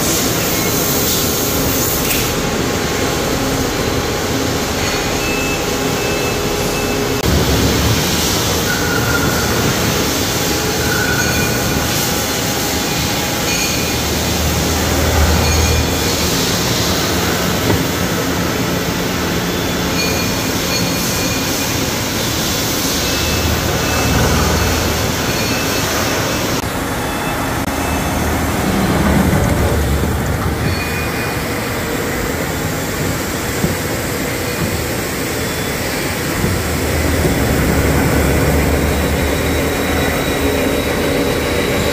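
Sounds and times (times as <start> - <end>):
milling machines whirring: 0.0 - 41.9.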